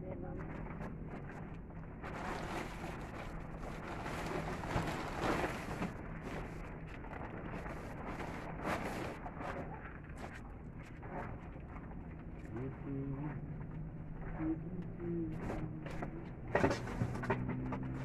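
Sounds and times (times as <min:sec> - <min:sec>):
plastic tarpaulin rustling: 0:00.3 - 0:18.0.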